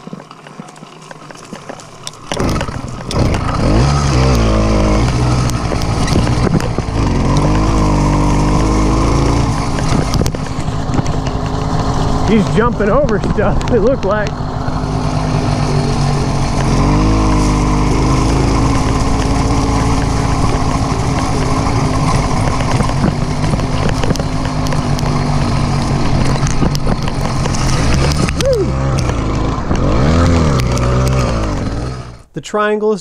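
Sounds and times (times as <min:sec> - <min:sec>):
engine revving: 0:02.0 - 0:32.3.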